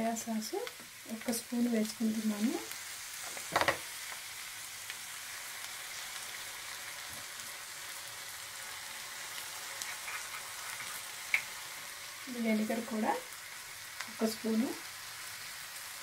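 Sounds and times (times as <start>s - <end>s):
noodles sizzling in a pan: 0.0s - 16.0s.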